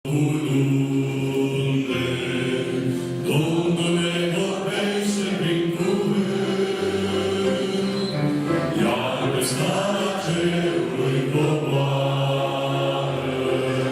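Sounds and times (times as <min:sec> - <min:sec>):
slow church hymn: 0:00.1 - 0:13.9.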